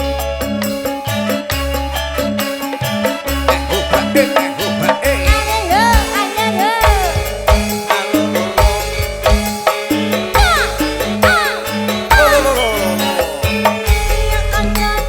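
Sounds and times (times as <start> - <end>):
pulsing bass line: 0.0 - 15.0
sliding melody line: 0.0 - 15.0
steady percussion beat: 0.0 - 15.0.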